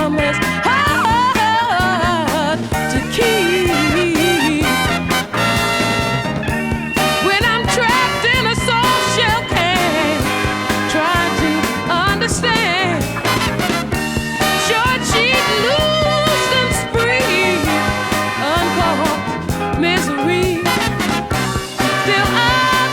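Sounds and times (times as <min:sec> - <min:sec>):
upbeat ska style instrumental music: 0:00.0 - 0:22.9.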